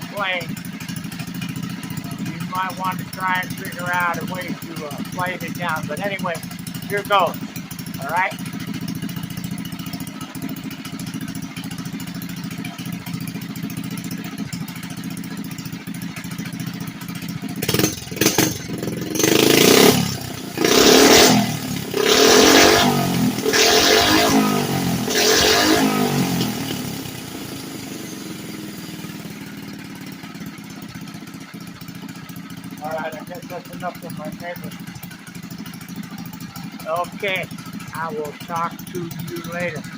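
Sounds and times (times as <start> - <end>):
small engine idling and revving: 0.0 - 39.9.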